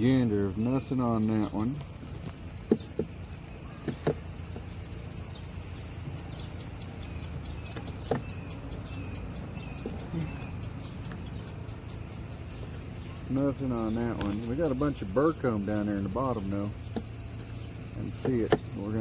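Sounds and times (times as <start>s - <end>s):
bird chirping: 0.0s - 19.0s
rapid high ticking: 0.0s - 19.0s
steady low hum: 0.0s - 19.0s.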